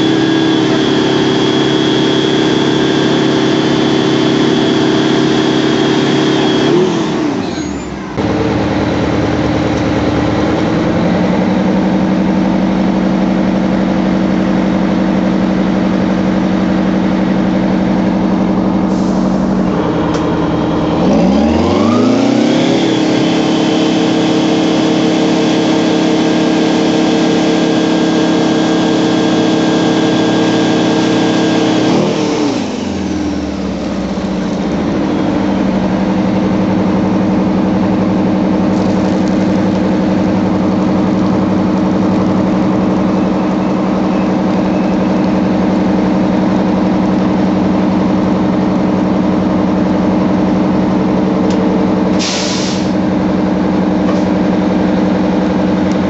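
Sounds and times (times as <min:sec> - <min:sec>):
truck engine running hard: 0:00.0 - 0:56.0.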